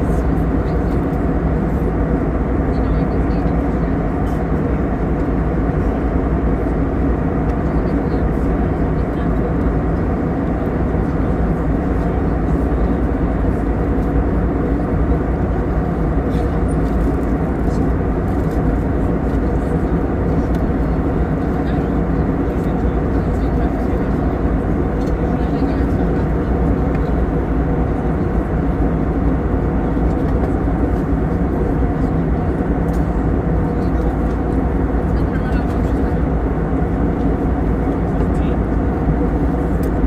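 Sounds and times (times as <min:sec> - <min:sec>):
airplane cabin engine rush: 0:00.0 - 0:40.0.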